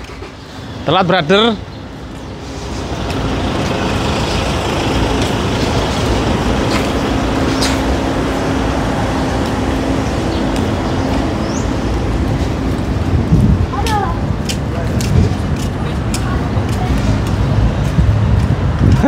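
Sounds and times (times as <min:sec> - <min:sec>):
bus engine running: 0:00.0 - 0:19.0
road traffic: 0:00.0 - 0:19.0.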